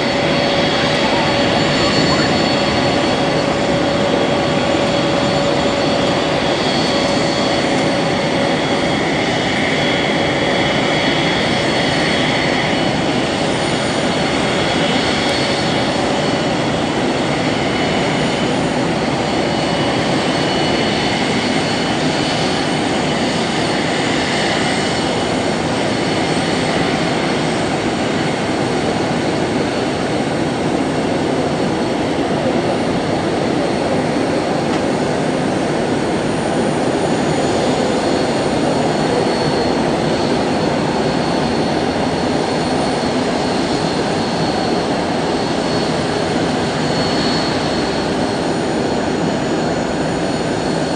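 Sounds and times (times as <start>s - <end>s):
high jet whine: 0.0s - 50.9s
jet engines rushing: 0.0s - 50.9s.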